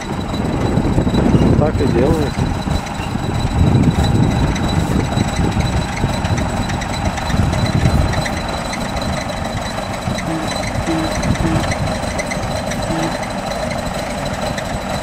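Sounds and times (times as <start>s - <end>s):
bulldozer diesel engine under load: 0.0s - 15.0s.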